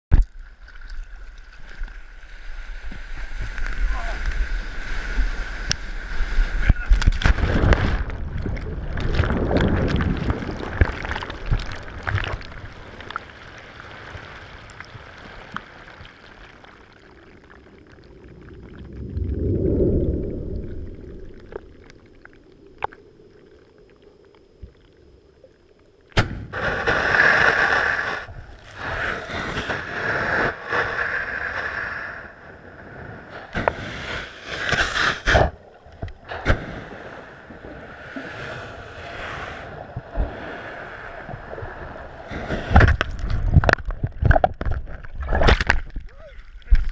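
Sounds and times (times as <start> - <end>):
water rushing and sloshing: 0.2 - 46.9
muffled underwater rumbling: 2.8 - 34.0, 35.2 - 46.9.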